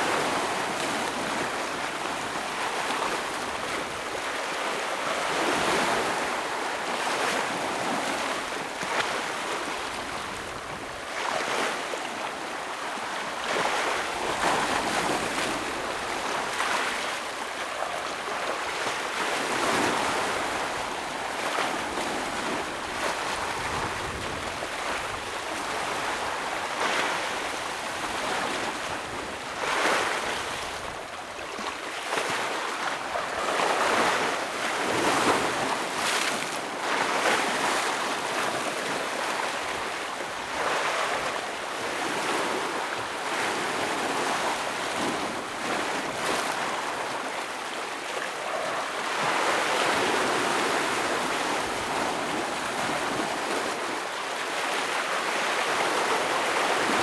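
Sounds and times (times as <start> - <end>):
ocean waves breaking on rocks: 0.0 - 57.0.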